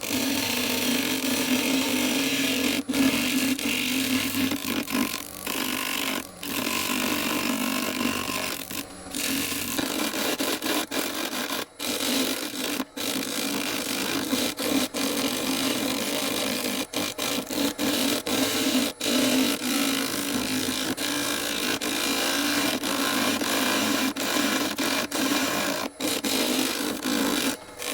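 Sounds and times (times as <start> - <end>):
turning tool cutting on a lathe: 0.0 - 27.9.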